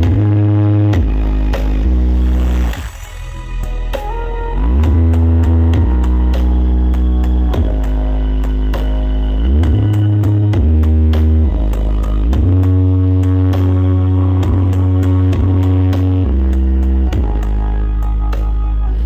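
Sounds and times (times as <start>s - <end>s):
electronic dance music: 0.0s - 19.0s.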